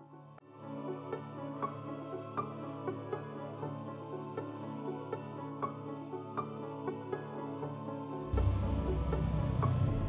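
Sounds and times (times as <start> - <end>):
soft instrumental background music: 0.0 - 10.0.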